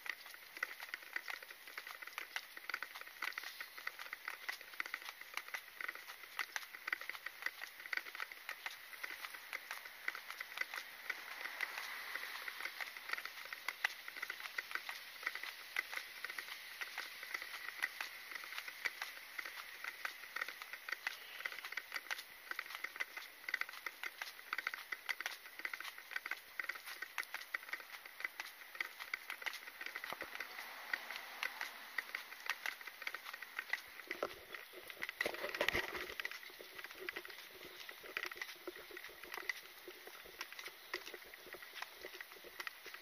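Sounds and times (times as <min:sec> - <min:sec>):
footsteps on concrete: 0:00.0 - 0:43.0
gear clicking and rattling: 0:00.0 - 0:43.0.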